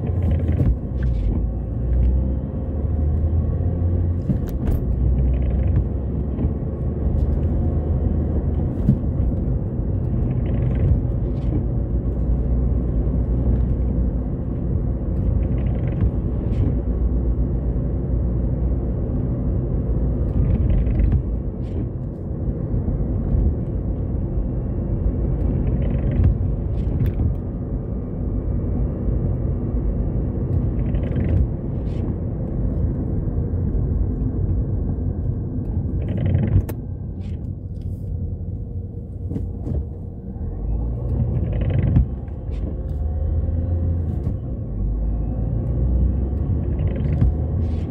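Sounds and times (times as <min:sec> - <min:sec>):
car engine and tyre noise: 0:00.0 - 0:47.9
windscreen wipers swishing: 0:00.0 - 0:47.9.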